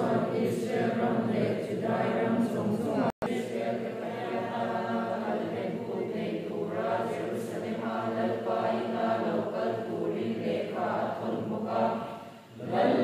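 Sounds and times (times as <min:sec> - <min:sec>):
congregation speaking in unison: 0:00.0 - 0:13.0.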